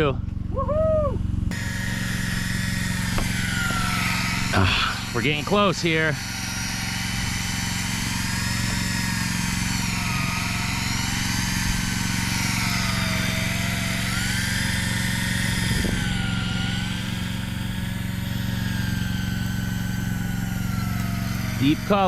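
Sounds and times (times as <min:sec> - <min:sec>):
diesel boat engine drone: 0:00.0 - 0:22.0
fishing reel motor whine: 0:00.0 - 0:22.0.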